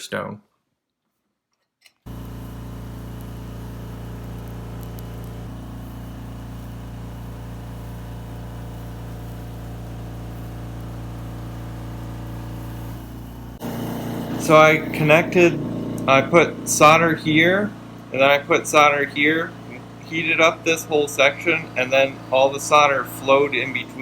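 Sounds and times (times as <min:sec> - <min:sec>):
machine hum: 0:02.1 - 0:24.0.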